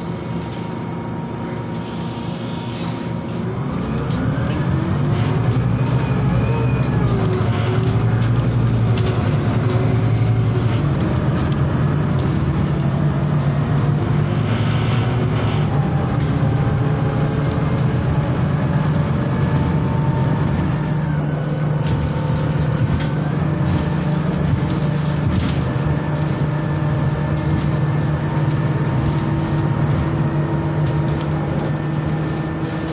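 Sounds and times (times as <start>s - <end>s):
bus engine and road drone: 0.0s - 32.9s.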